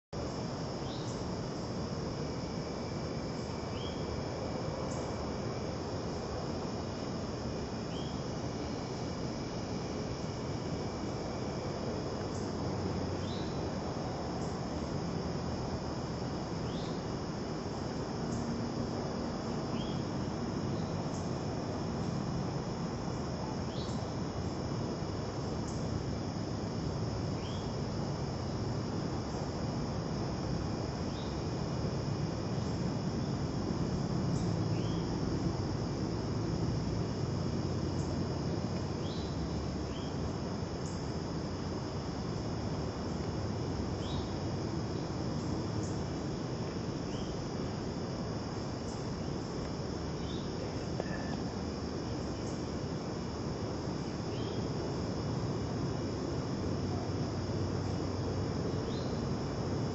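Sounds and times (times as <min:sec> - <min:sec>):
insect chorus droning: 0:00.0 - 0:59.9
low background hiss: 0:00.2 - 0:59.9.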